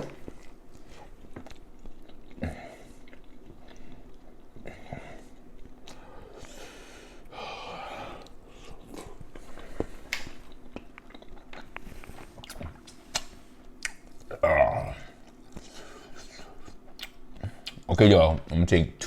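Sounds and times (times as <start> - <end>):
chewing and wet mouth sounds: 0.1 - 6.6, 8.2 - 14.4, 15.0 - 17.9.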